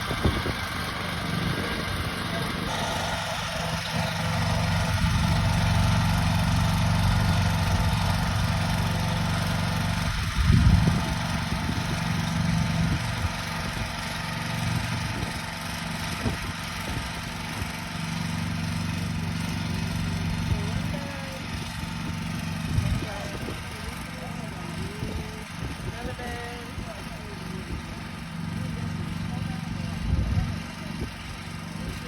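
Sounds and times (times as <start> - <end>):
walk-behind tractor engine running: 0.0 - 32.0.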